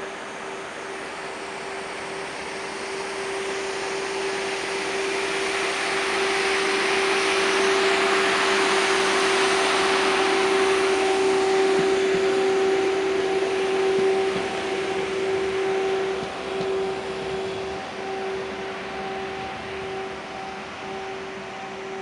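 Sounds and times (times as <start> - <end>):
higher whine: 0.0 - 22.0
tram rolling noise: 0.0 - 22.0
tram whine: 0.0 - 22.0.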